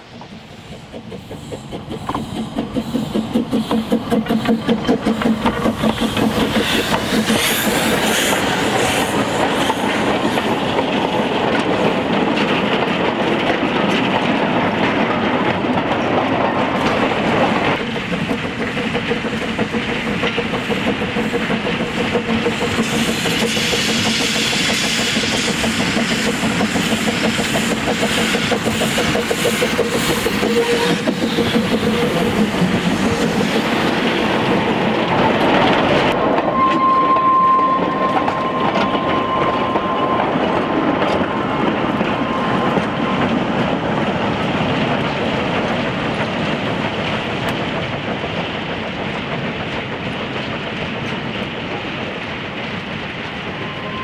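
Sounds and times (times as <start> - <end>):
steam locomotive exhaust beat: 0.0 - 54.0.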